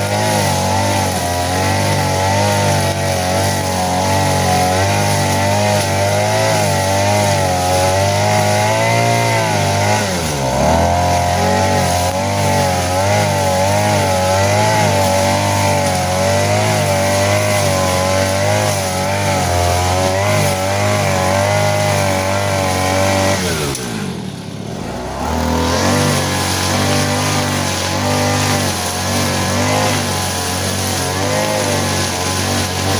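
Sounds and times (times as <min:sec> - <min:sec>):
grass cutter engine running: 0:00.0 - 0:32.9.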